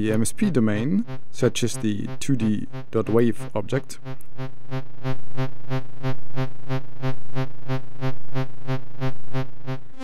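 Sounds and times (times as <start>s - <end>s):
buzzy synthesized low tone: 0.0s - 10.0s.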